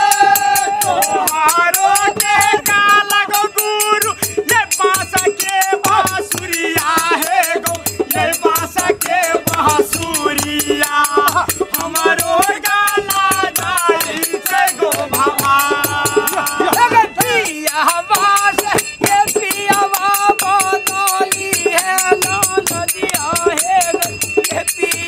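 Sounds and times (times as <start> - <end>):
drum beat: 0.0 - 25.0
hand cymbals jingling: 0.0 - 25.0.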